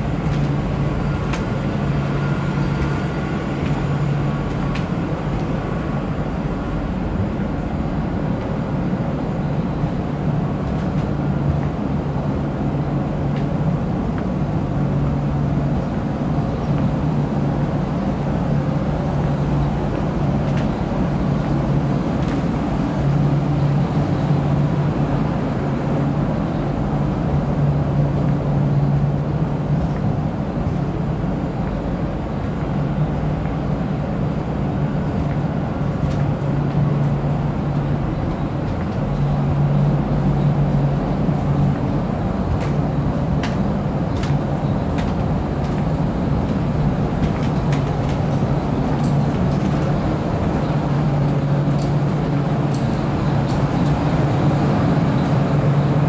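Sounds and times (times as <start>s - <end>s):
equipment room fan noise: 0.0s - 56.0s.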